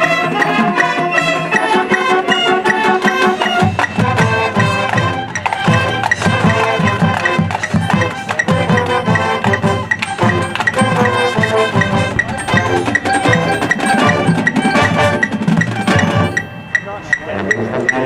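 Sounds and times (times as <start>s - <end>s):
drums and mallet percussion: 0.0s - 18.0s
marching band brass and winds: 0.0s - 18.0s.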